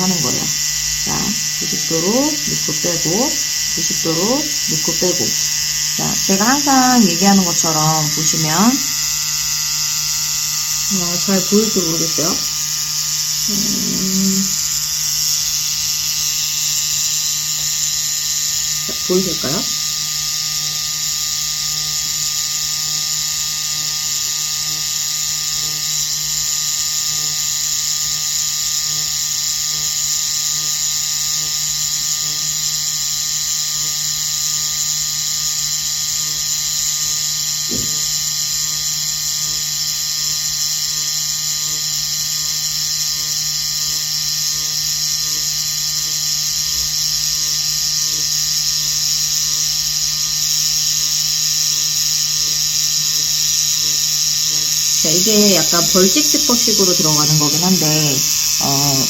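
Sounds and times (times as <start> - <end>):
makeup machine buzzing: 0.0 - 59.0.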